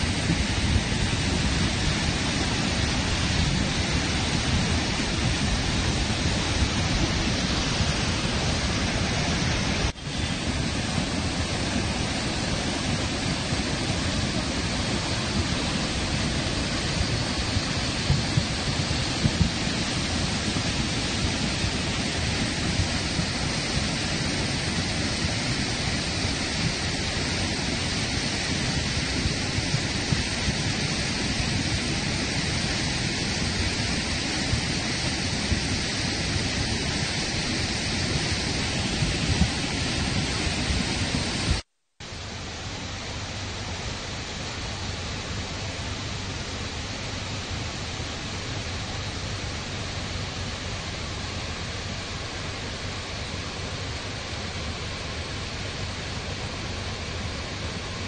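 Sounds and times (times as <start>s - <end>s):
river rushing over boulders: 0.0s - 58.0s.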